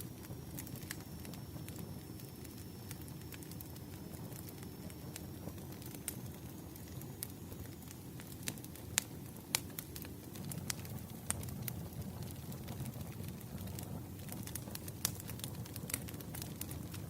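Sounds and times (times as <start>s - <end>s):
flames rushing: 0.1s - 17.0s
wood pops and crackles: 0.2s - 17.0s.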